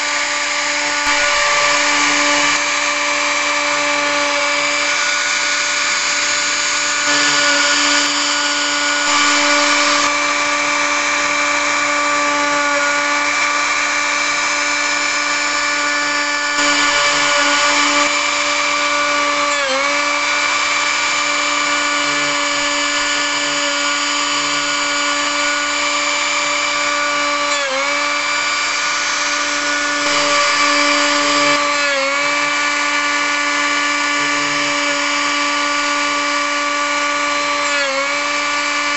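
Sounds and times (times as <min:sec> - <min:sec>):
bit carving wood: 0:00.0 - 0:38.9
router spindle whine: 0:00.0 - 0:38.9.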